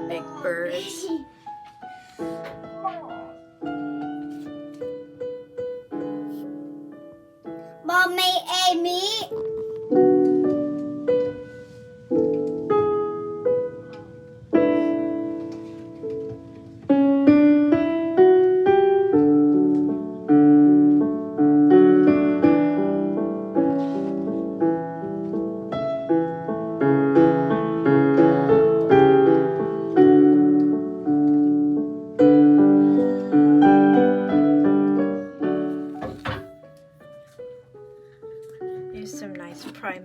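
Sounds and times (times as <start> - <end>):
gentle piano music: 0.0 - 40.0.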